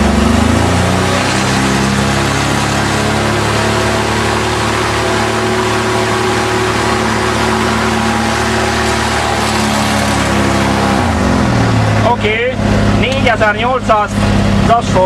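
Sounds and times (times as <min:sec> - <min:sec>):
engine at full throttle: 0:00.0 - 0:15.0.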